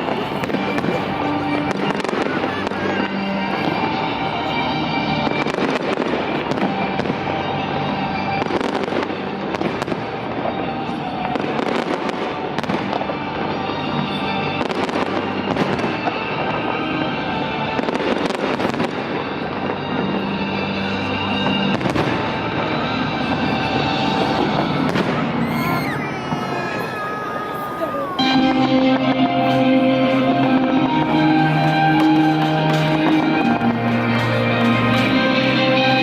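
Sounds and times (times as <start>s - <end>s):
fireworks bangs and crackles: 0.0s - 36.0s
music playing: 0.0s - 36.0s.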